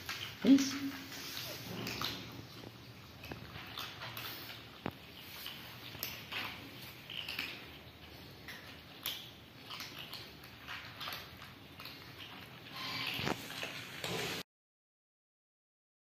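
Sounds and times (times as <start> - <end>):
cats crunching dry kibble: 0.0 - 14.2.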